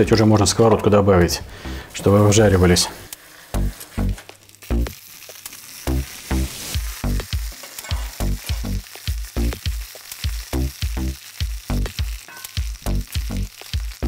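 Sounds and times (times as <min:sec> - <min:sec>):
background music with low notes: 0:00.0 - 0:05.0, 0:05.9 - 0:14.0
meat sizzling in a frying pan: 0:02.1 - 0:14.0.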